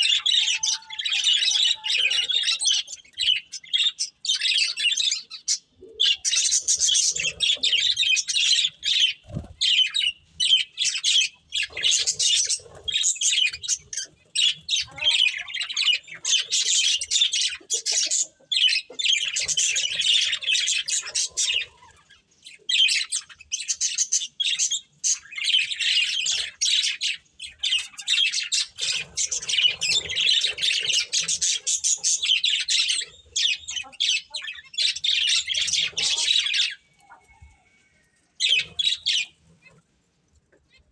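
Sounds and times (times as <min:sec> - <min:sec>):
budgerigars chattering and chirping: 0:00.0 - 0:37.7, 0:38.4 - 0:39.9.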